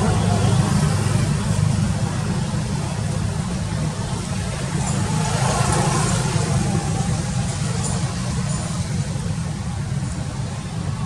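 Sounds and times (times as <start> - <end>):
steady low rumble with hiss: 0.0 - 11.0.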